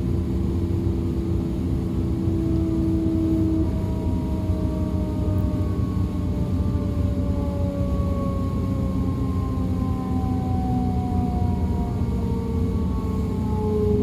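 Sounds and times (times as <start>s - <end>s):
electric train traction whine: 0.0s - 14.0s
train rumble: 0.0s - 14.0s.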